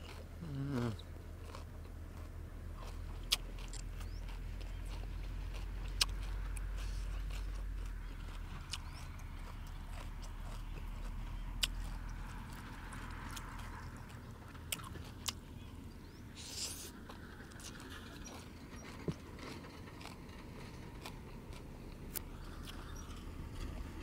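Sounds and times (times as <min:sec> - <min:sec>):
man chewing noodles: 0:00.0 - 0:24.0.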